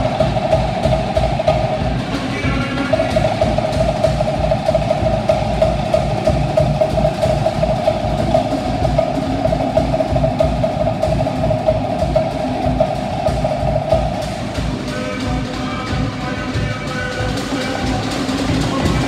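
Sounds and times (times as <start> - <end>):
deep drum pulsing: 0.0 - 19.0
wooden slit drums: 0.0 - 19.0.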